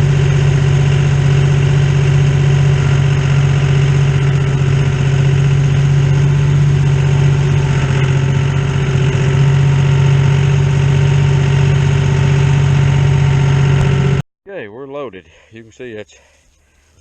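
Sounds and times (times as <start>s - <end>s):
tractor engine running: 0.0s - 14.2s.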